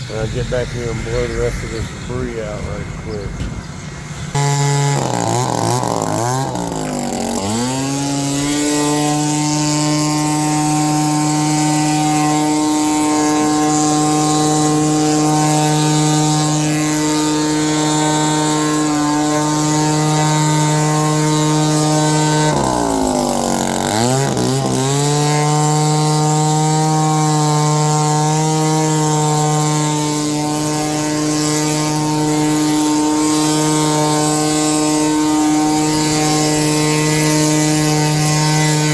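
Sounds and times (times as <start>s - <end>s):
leaf blower running: 0.0s - 38.9s.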